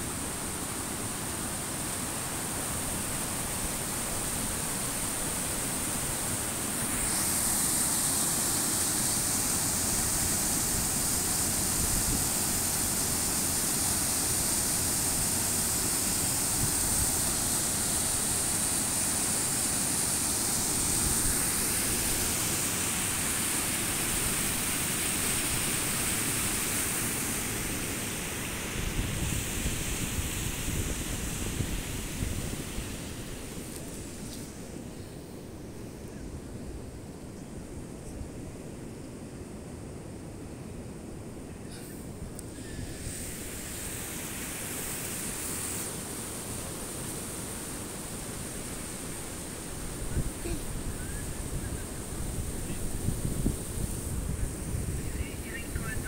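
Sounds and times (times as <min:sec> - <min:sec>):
stream rushing over rocks: 0:00.0 - 0:34.9, 0:42.0 - 0:56.0.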